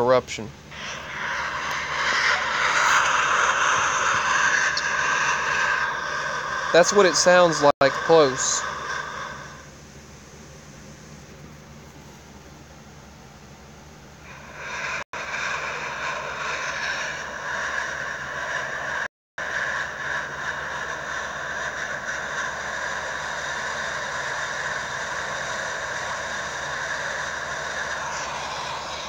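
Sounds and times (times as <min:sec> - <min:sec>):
lava fissure erupting roar: 0:00.7 - 0:09.7, 0:14.3 - 0:29.0.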